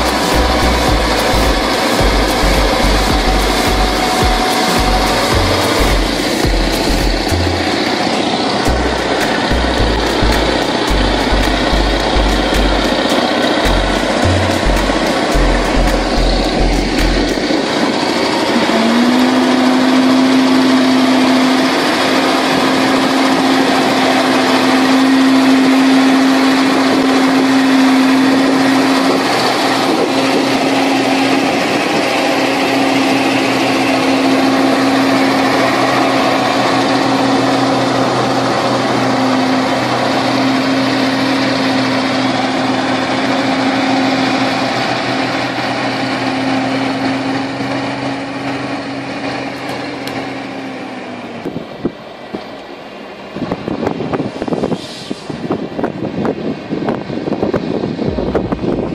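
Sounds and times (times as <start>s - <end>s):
truck diesel engine running: 0.0s - 58.9s.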